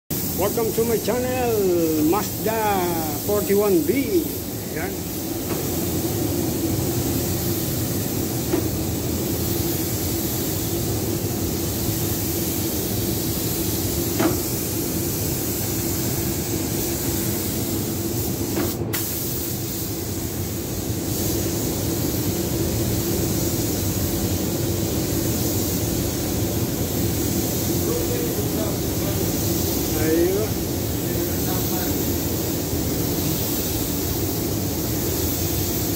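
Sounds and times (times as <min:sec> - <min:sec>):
paint spray gun hissing: 0:00.1 - 0:35.9.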